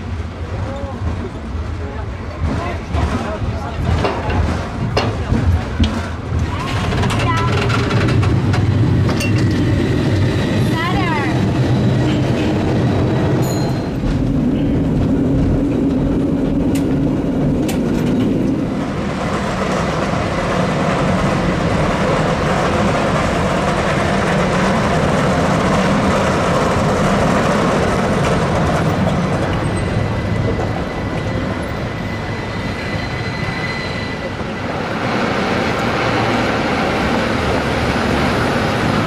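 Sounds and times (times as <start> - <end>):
cable car rumbling and clattering: 0.0 - 39.0.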